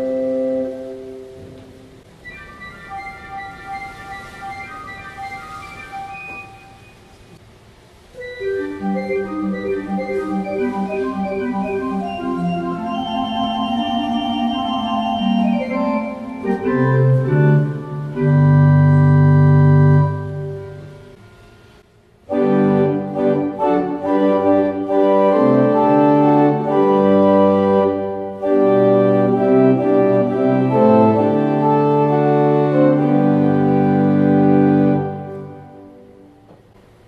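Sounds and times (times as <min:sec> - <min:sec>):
pipe organ playing: 0:00.0 - 0:07.3, 0:08.2 - 0:36.4.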